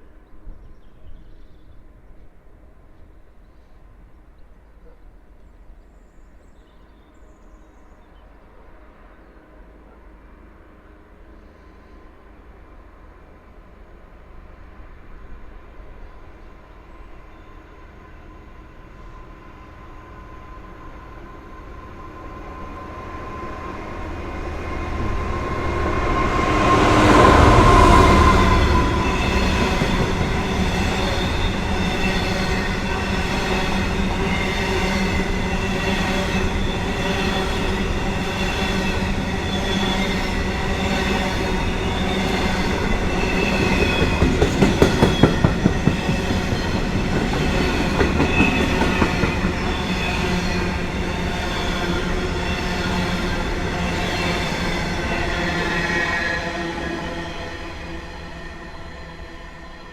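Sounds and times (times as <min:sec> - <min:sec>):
train passing: 0:08.1 - 0:59.9.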